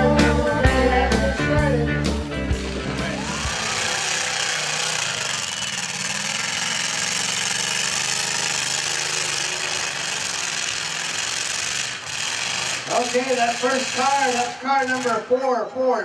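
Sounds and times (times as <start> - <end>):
car engine running: 0.0 - 15.3.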